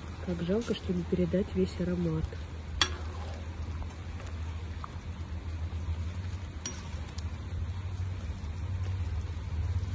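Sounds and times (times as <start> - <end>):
low rumble of fire: 0.0 - 9.9
stew boiling and bubbling: 0.0 - 9.9.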